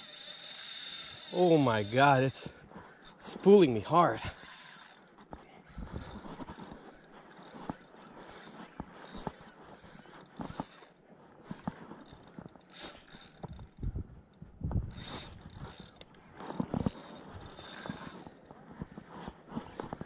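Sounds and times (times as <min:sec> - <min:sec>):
fishing reel clicking and whirring: 0:00.0 - 0:11.0, 0:11.6 - 0:20.0.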